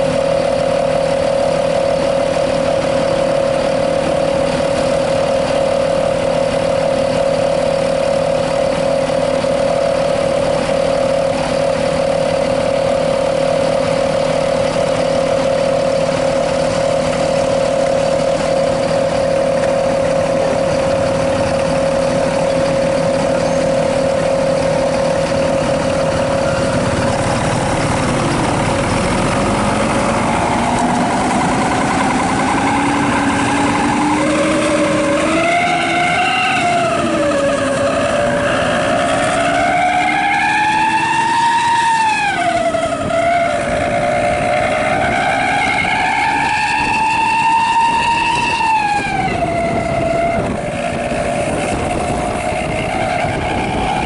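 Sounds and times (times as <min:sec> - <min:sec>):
bus engine revving: 0:00.0 - 0:54.0
exhaust whistle howling: 0:00.0 - 0:54.0.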